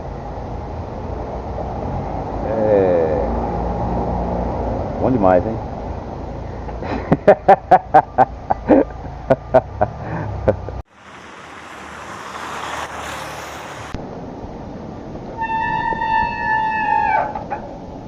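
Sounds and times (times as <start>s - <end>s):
wind and road rush: 0.0s - 18.0s.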